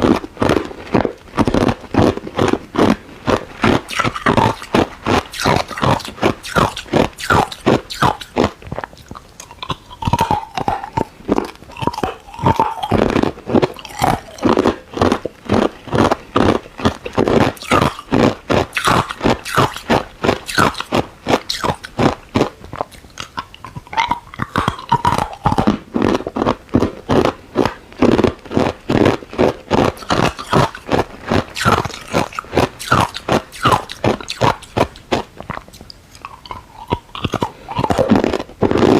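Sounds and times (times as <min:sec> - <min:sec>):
ice crunched between teeth: 0:00.0 - 0:38.9.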